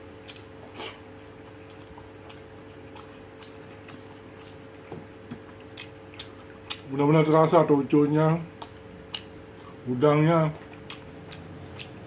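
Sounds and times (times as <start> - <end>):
wet chewing sounds: 0.0 - 7.0, 8.5 - 9.8, 10.5 - 12.0
faint steady hum: 0.0 - 12.0.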